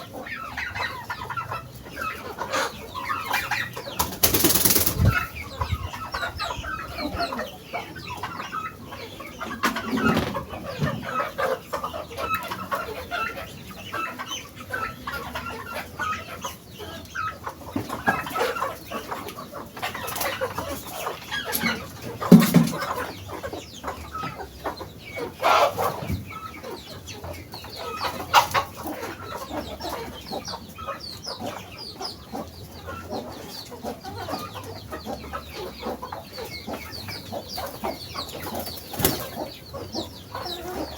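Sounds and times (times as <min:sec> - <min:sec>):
chickens clucking and chirping: 0:00.0 - 0:40.9.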